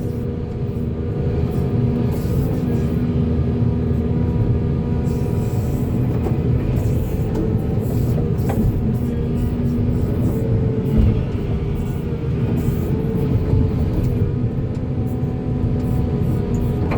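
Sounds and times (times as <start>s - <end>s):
excavator diesel engine rumbling: 0.0s - 16.9s.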